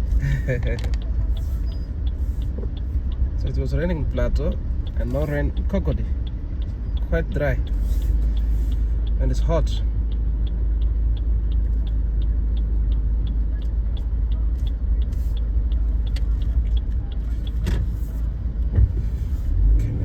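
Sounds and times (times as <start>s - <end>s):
car engine and road rumble: 0.0s - 20.0s
light ticking: 0.6s - 18.8s.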